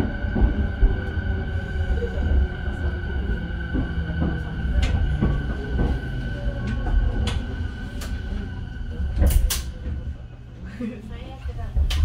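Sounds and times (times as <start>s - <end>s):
train wheels and motors rumbling: 0.0s - 12.0s.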